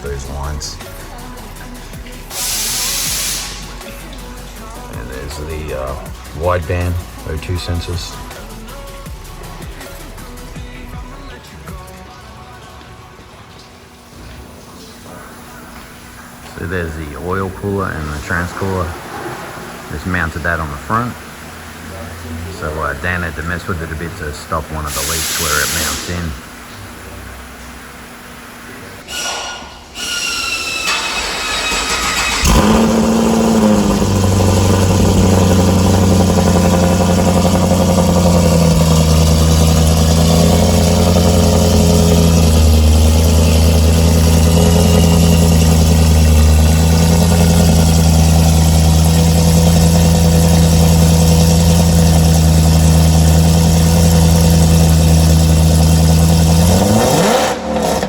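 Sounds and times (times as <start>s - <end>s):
car engine revving: 0.0s - 11.4s, 14.6s - 29.0s, 30.8s - 58.0s
car engine starting and idling: 0.0s - 12.5s, 13.6s - 58.0s.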